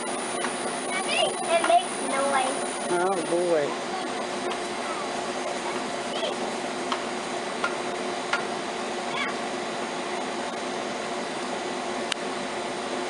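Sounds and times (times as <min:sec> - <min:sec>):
machine whirring hiss: 0:00.0 - 0:13.0.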